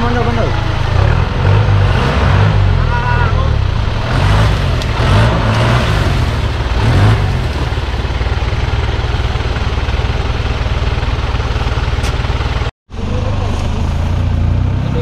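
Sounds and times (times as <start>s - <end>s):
engine revving and idling: 0.0s - 15.0s.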